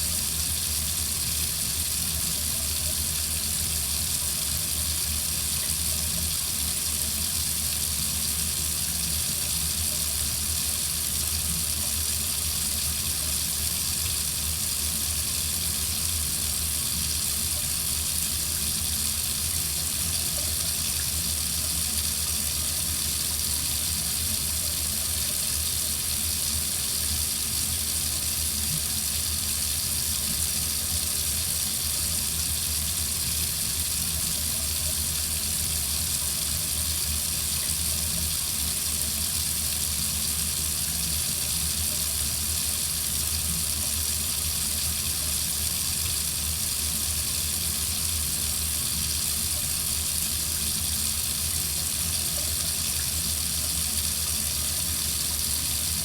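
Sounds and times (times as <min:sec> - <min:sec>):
faucet running into sink: 0:00.0 - 0:56.0.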